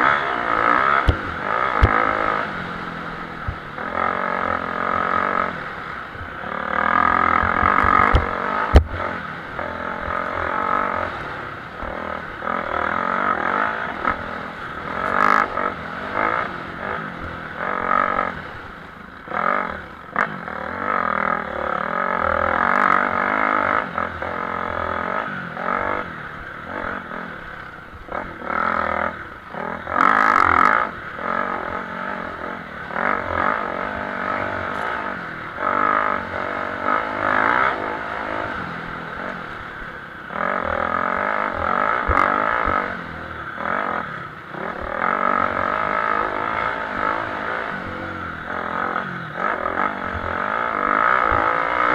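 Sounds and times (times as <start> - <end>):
motocross bikes revving: 0.0 - 51.9.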